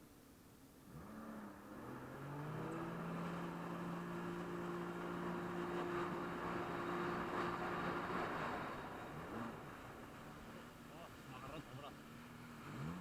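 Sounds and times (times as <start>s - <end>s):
jet ski engine drone: 0.6s - 13.0s.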